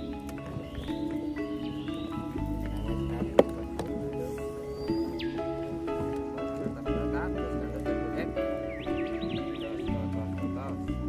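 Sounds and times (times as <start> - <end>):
melody of held notes: 0.0 - 11.0.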